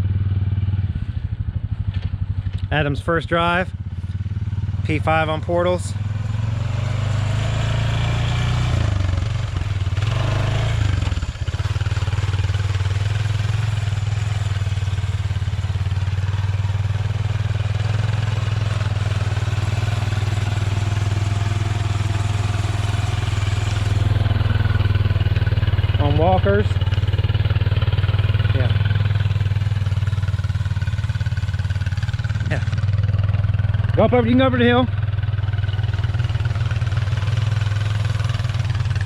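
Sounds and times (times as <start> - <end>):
utility vehicle engine running: 0.0 - 39.0.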